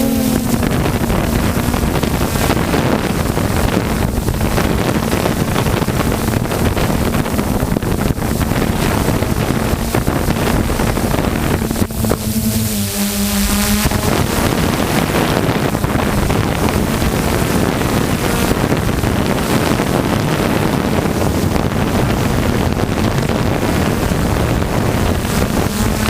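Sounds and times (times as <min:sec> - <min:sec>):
vehicle engine running: 0:00.0 - 0:26.0
wind buffeting microphone: 0:00.0 - 0:26.0.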